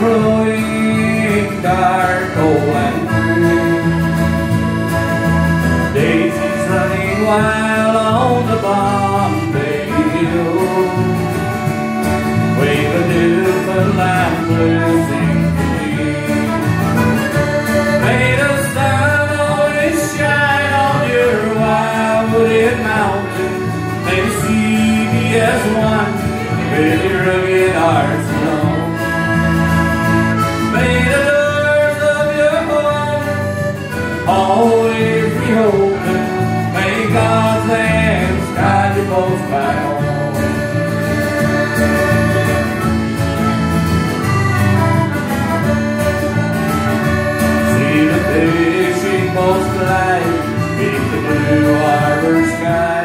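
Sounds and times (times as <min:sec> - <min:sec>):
accordion melody: 0:00.0 - 0:53.0
strummed guitar chords: 0:00.0 - 0:53.0.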